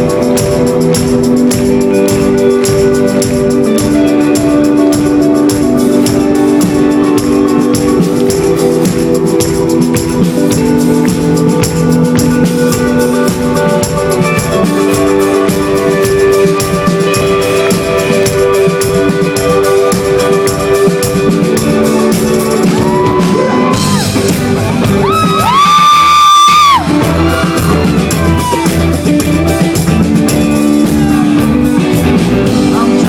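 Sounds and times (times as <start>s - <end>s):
drum beat: 0.0s - 33.0s
guitar chords: 0.0s - 33.0s
rock band playing live: 0.0s - 33.0s.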